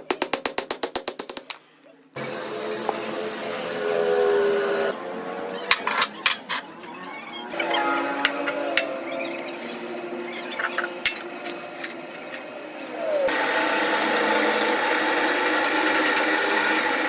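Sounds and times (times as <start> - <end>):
steady machine noise: 2.2 - 6.8, 7.5 - 17.0.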